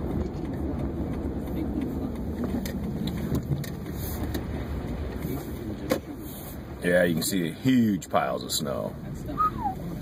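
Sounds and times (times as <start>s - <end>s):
engine and tyres rumbling: 0.0s - 10.0s.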